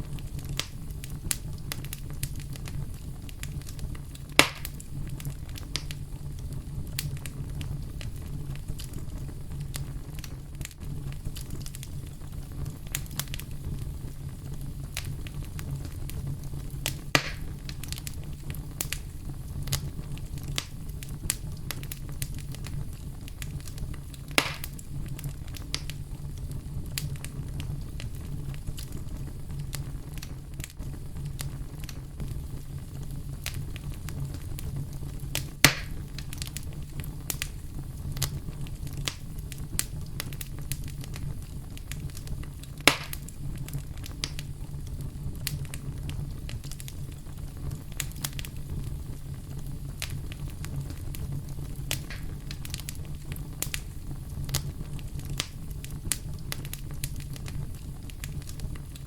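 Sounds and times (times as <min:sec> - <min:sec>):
campfire crackling: 0:00.0 - 0:59.0
sharp fire pops: 0:00.0 - 0:59.0.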